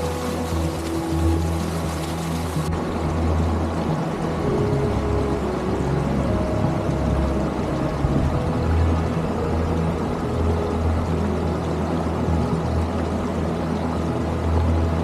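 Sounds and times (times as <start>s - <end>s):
deep low drone: 0.0s - 15.0s
sustained background music: 0.0s - 15.0s.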